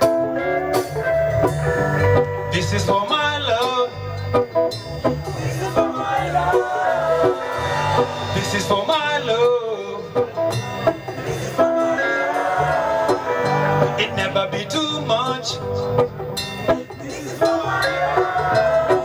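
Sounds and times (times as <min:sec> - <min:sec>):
reggae band playing: 0:00.0 - 0:19.0
person singing lead vocal: 0:02.5 - 0:04.5, 0:05.2 - 0:19.0.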